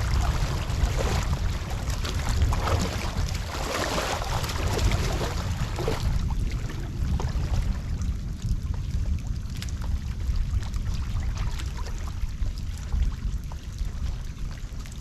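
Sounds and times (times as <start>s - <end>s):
floodwater churning and splashing: 0.0s - 15.0s
wind rumble on microphone: 0.0s - 15.0s.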